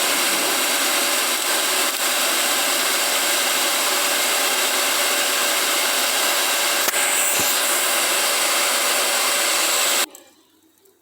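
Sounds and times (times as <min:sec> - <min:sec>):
hair dryer running: 0:00.0 - 0:10.1.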